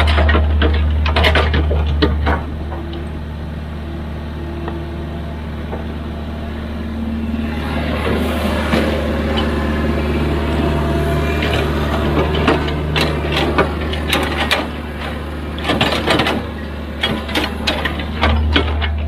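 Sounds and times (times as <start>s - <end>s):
excavator diesel engine drone: 0.0s - 19.0s.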